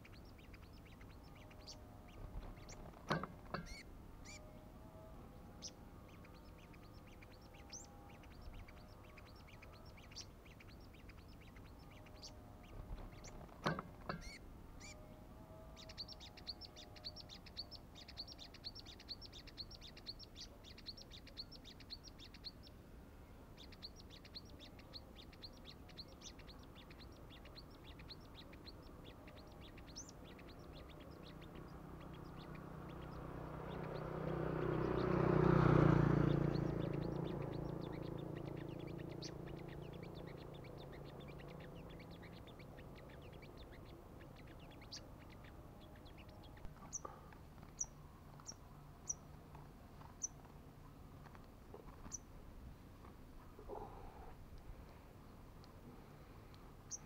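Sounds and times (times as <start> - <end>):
birds chirping: 0.0 - 57.0
motor vehicle passing: 0.0 - 57.0.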